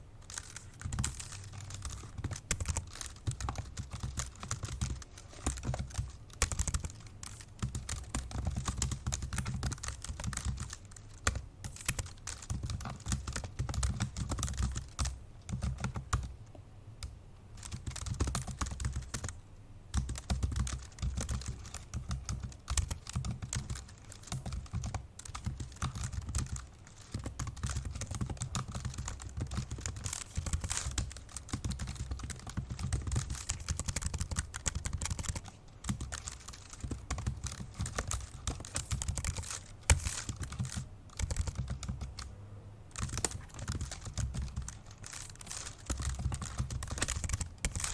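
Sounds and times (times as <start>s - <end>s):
fast typing on laptop keyboard: 0.2s - 16.4s, 17.6s - 42.3s, 42.9s - 47.9s.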